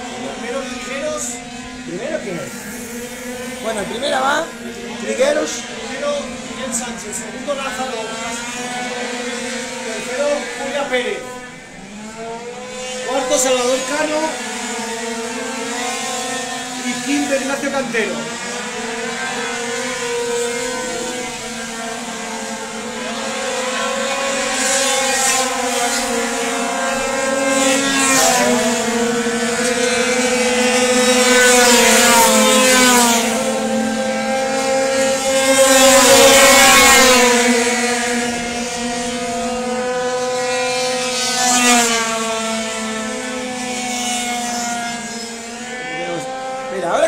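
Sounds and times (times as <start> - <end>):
scooter engines revving: 0.0 - 47.0.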